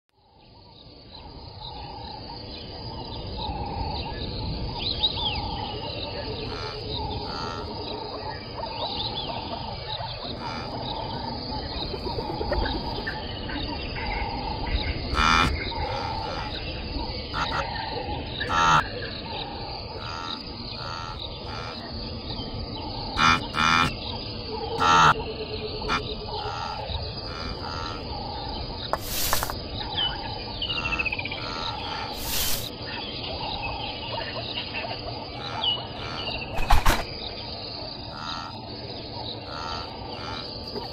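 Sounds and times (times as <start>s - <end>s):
insects: 0.1s - 40.9s
birds chirping: 0.2s - 40.9s.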